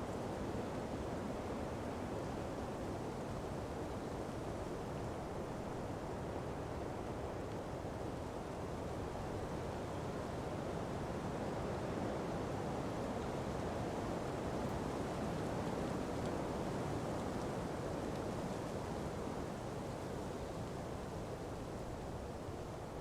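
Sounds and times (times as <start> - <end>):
wind through palm trees: 0.0 - 23.0.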